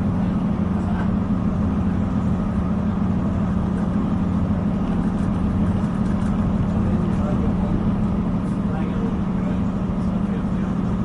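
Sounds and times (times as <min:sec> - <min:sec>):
diesel train engine hum: 0:00.0 - 0:11.0
train running noise: 0:00.0 - 0:11.0.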